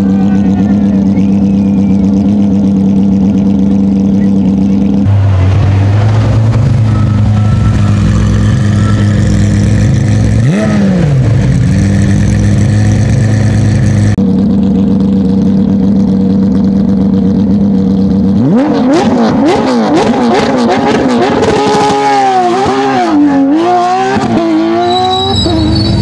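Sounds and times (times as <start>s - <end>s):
car engine idling: 0.0s - 21.3s
engine throttle blips: 0.0s - 23.2s.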